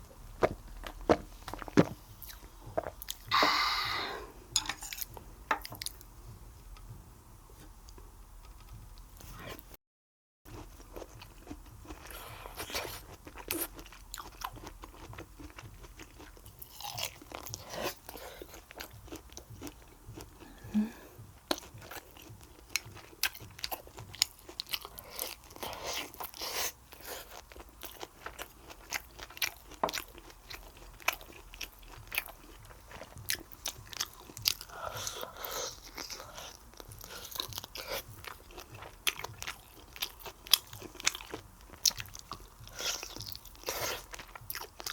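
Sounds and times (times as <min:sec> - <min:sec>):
person chewing with crunches: 0:00.0 - 0:06.1, 0:10.5 - 0:44.9.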